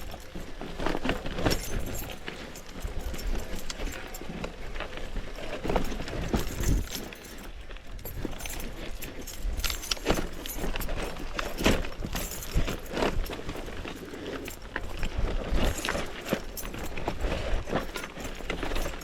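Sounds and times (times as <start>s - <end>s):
mountain bike rattling: 0.0s - 19.0s.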